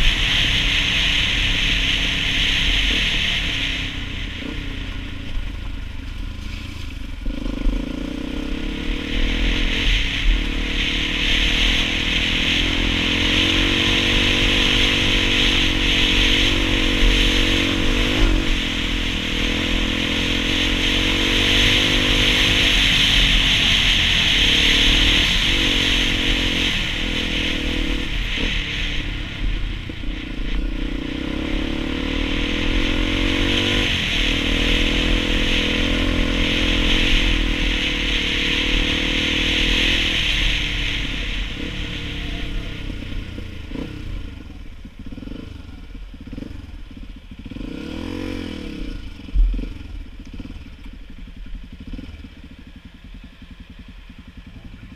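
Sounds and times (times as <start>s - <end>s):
dirt bike engine revving: 0.0s - 5.3s, 6.3s - 50.9s
wind and road noise: 0.0s - 54.9s.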